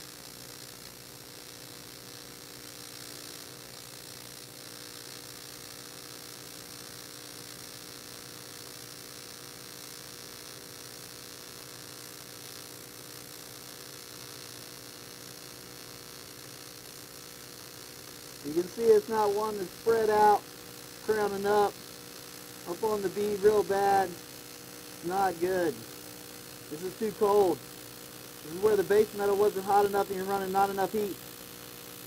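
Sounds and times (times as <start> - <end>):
welding arc humming and hissing: 0.0 - 32.0.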